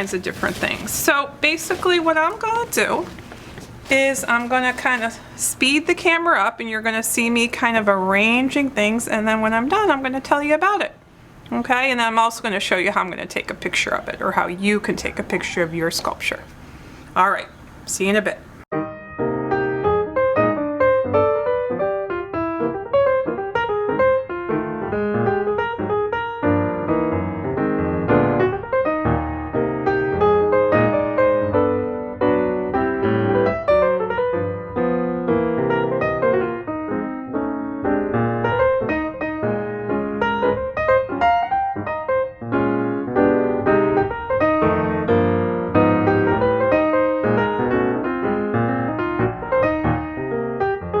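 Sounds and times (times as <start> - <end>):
piano music: 0.0 - 10.8, 18.7 - 51.0.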